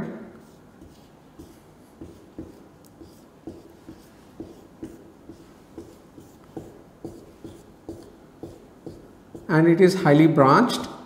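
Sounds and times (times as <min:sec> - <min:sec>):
marker scraping on whiteboard: 0:00.4 - 0:09.6.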